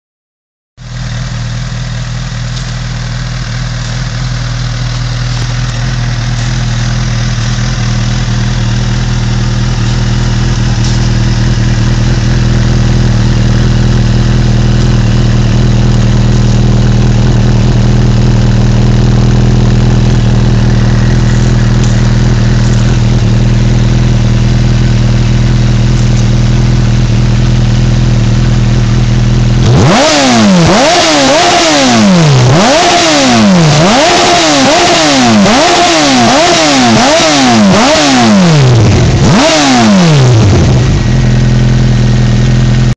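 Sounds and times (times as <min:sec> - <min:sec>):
motorcycle engine idling: 0:00.8 - 0:42.9.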